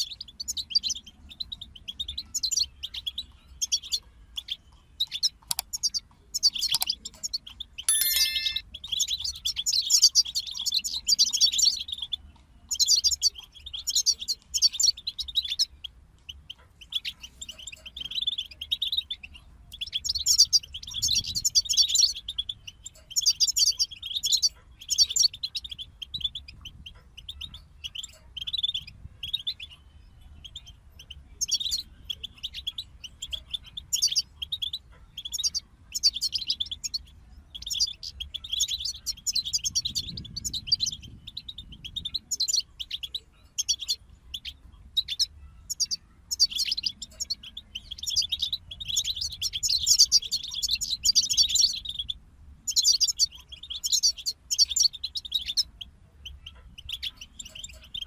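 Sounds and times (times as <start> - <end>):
finch twittering and trilling: 0.0 - 58.0.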